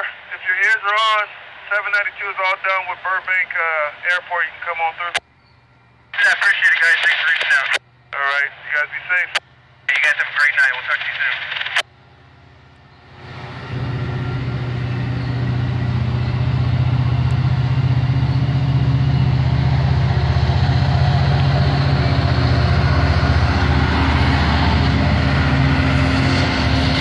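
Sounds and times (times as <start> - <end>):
diesel locomotive engine drone: 0.0 - 27.0.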